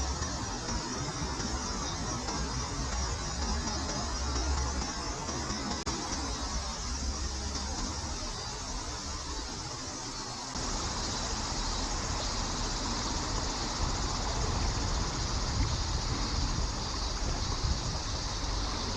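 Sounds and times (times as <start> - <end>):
high insect chorus: 0.0 - 18.9.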